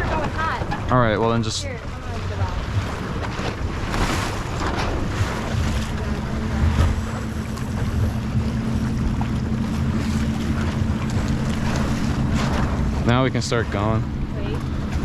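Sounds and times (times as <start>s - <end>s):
steady low hum: 0.0s - 15.0s
water rushing past hull: 0.0s - 15.0s
water splashing: 0.0s - 15.0s
wind buffeting microphone: 0.0s - 15.0s.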